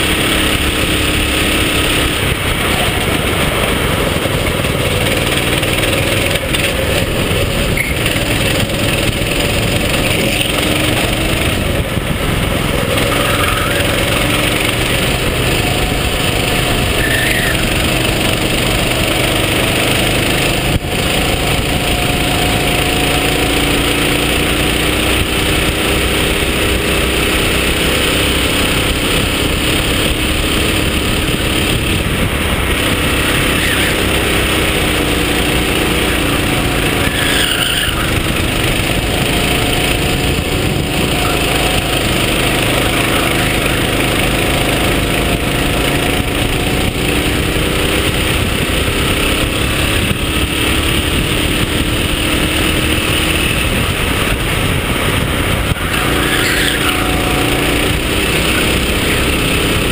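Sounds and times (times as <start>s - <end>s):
kart engine accelerating: 0.0s - 59.9s
wind and track noise: 0.0s - 59.9s.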